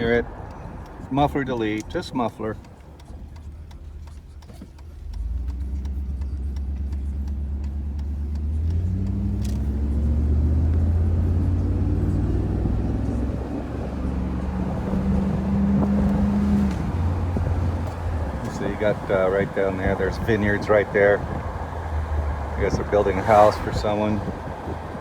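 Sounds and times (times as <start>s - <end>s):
car engine exhaust accelerating: 0.0s - 25.0s.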